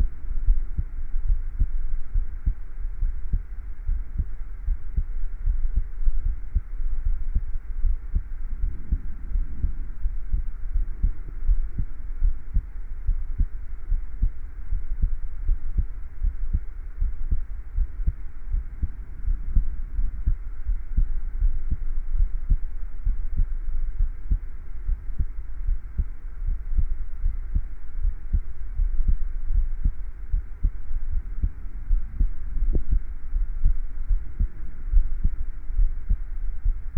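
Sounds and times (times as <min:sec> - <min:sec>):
heartbeat thumps: 0:00.0 - 0:36.9.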